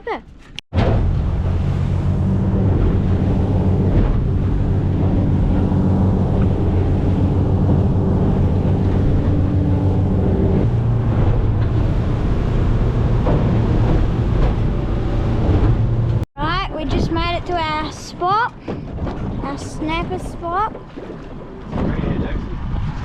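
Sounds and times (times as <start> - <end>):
boat engine running: 0.7 - 23.0
wind buffeting microphone: 0.7 - 23.0.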